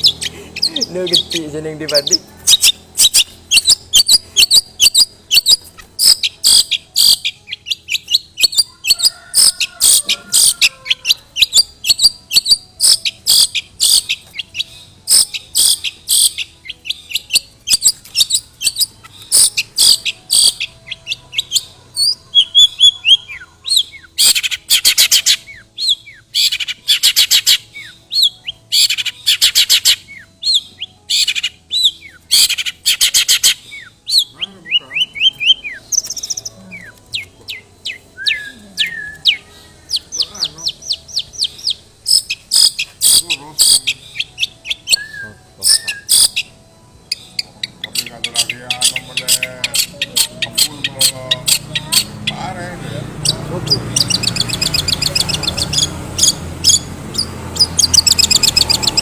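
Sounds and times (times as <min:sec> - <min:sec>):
bird singing sharp chirps: 0:00.0 - 0:59.0.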